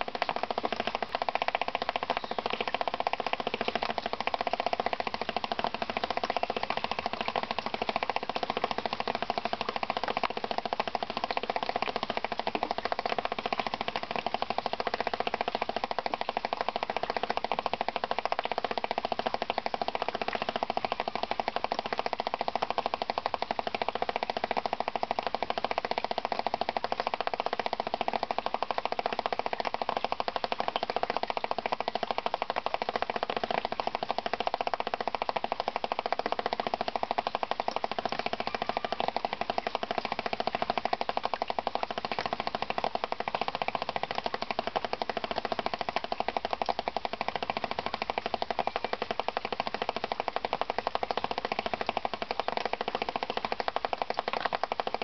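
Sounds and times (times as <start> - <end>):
water drops drumming on a leaf: 0.0 - 55.0.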